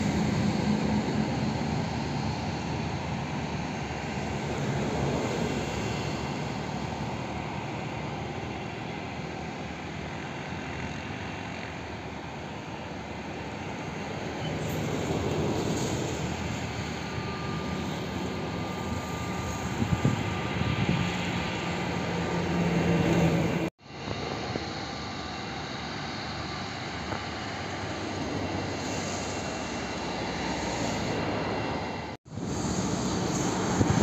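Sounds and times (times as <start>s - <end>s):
faint steady whine: 0.0s - 22.6s, 23.2s - 34.0s
jet engines running: 0.0s - 34.0s.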